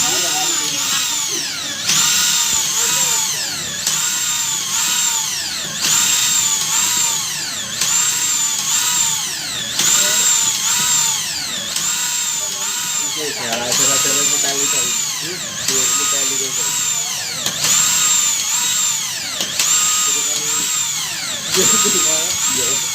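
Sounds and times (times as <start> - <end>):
electric drill motor whining: 0.0 - 22.9.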